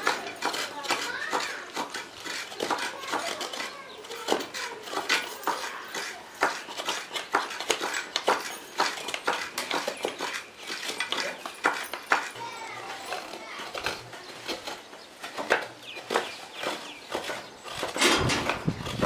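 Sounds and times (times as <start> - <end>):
coconut scraping on grater: 0.0 - 19.0.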